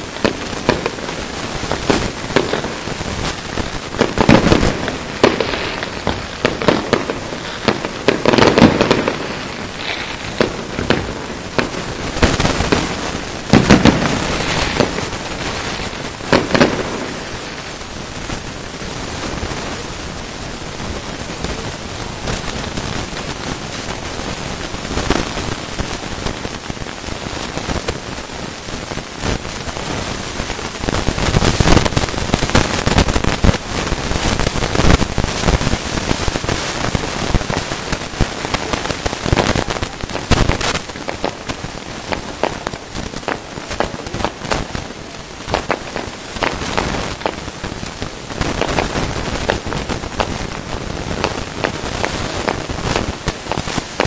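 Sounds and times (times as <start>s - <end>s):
fireworks bangs: 0.0s - 54.0s
fireworks crackling and fizzing: 0.0s - 54.0s.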